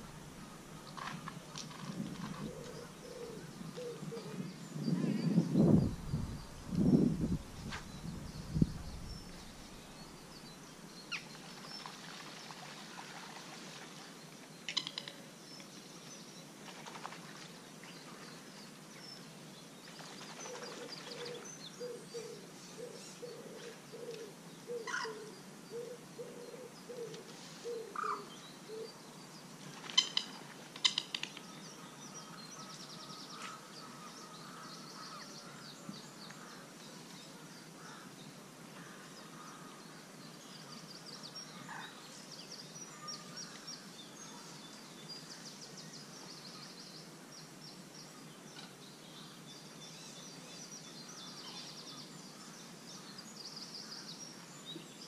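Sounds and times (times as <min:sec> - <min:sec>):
low evenly spaced bird notes: 0:00.0 - 0:55.0.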